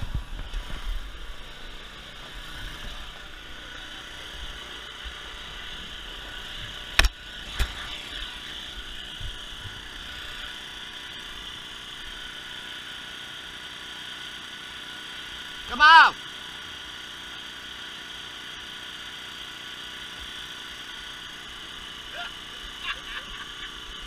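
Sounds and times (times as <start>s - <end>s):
electric air blower droning: 0.0s - 24.0s.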